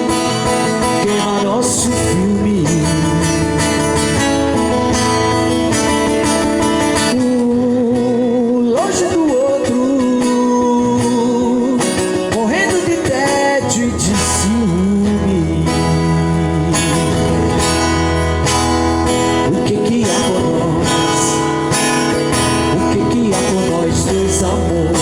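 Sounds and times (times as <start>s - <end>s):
person singing: 0.0s - 4.8s, 6.9s - 25.0s
strummed acoustic guitar: 0.0s - 25.0s.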